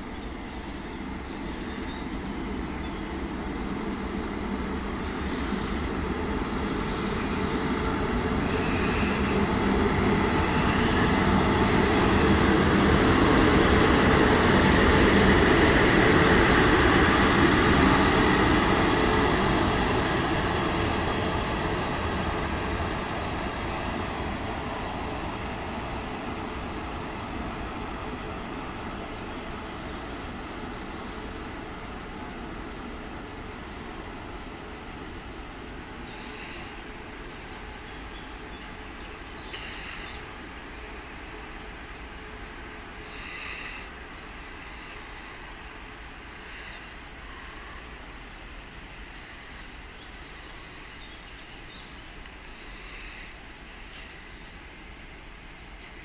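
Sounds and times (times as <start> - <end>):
locomotives passing by: 0.0 - 56.0.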